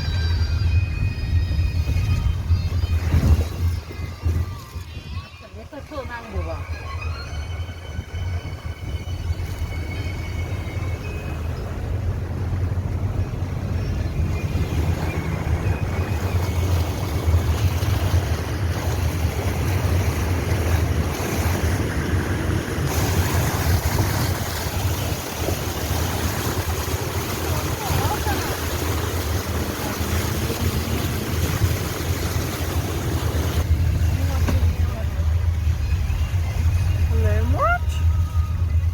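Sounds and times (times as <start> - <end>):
water rushing and splashing: 0.0 - 38.9
car engine low drone: 5.5 - 38.9.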